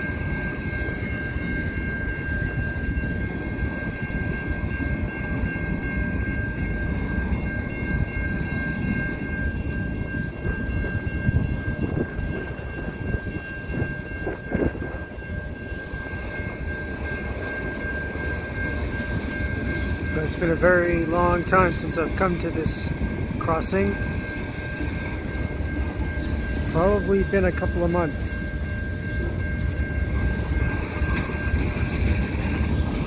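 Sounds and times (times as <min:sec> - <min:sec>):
freight train wheels rumbling: 0:00.0 - 0:33.0
high-pitched ringing tone: 0:00.0 - 0:33.0.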